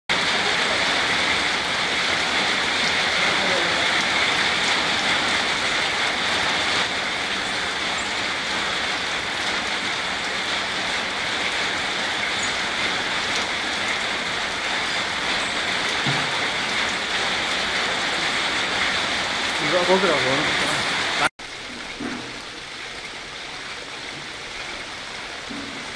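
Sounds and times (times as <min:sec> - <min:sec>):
rain on foliage: 0:00.1 - 0:25.9.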